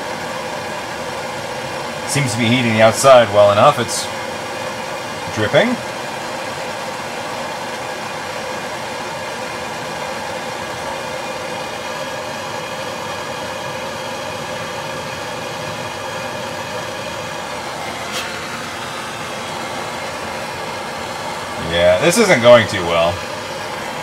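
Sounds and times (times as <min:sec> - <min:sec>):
blow torch flame hissing: 0:00.0 - 0:24.0.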